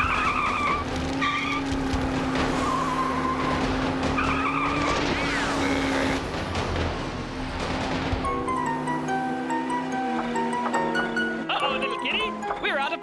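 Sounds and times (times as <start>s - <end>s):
wavering tyre squeals: 0.0s - 12.6s
cartoon race car engine hum: 0.0s - 13.0s.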